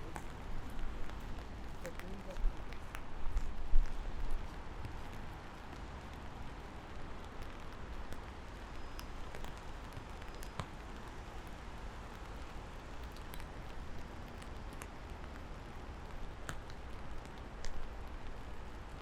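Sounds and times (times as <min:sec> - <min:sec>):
raindrops ticking: 0:00.0 - 0:19.0.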